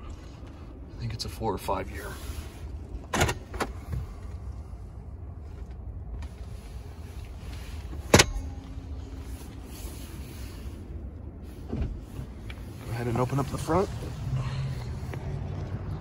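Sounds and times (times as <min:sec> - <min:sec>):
low rumble in car cabin: 0:00.0 - 0:16.0.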